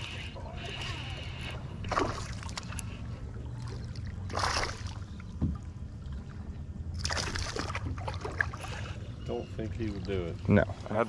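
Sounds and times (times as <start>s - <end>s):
water splashing beside boat: 0.0s - 11.0s.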